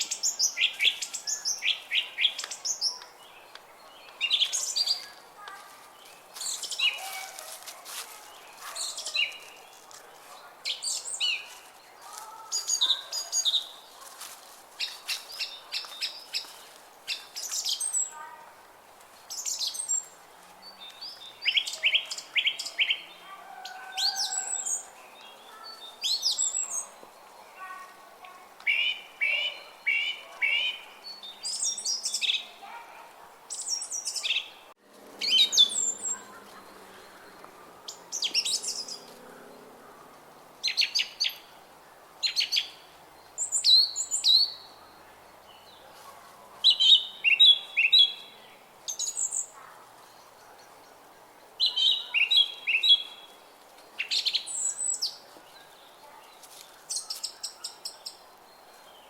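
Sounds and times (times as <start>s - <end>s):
songbirds chirping and whistling: 0.0s - 18.2s, 19.3s - 28.0s, 28.6s - 59.0s.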